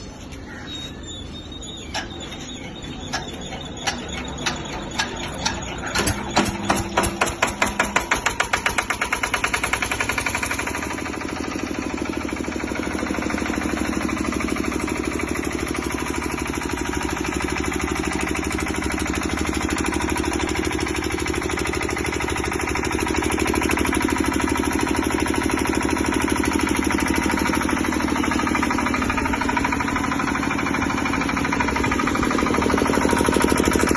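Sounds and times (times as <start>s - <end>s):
diesel generator engine starting: 0.0s - 33.9s.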